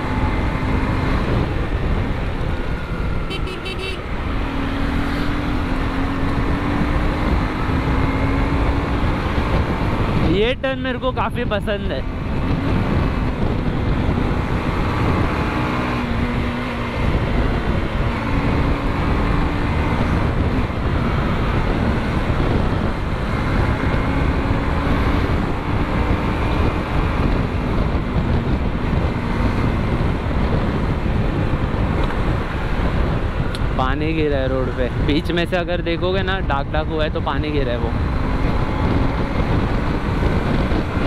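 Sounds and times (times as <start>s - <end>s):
motorcycle engine hum: 0.0s - 41.0s
wind rushing over microphone: 0.0s - 41.0s.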